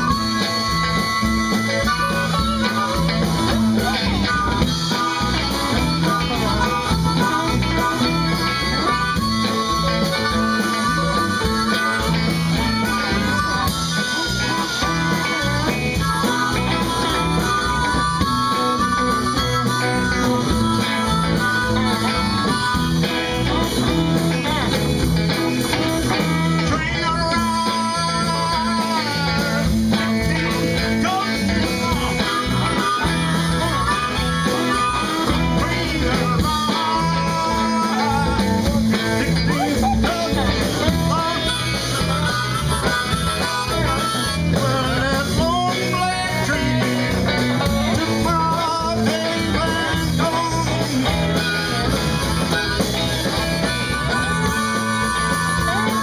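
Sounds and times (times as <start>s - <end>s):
electric guitar bent notes: 0.0s - 56.0s
live blues-rock band playing: 0.0s - 56.0s.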